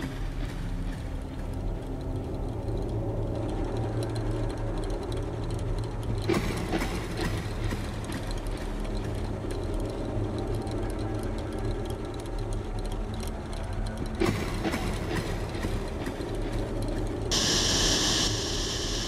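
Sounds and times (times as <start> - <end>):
low rumbling drone with hum: 0.0 - 19.0.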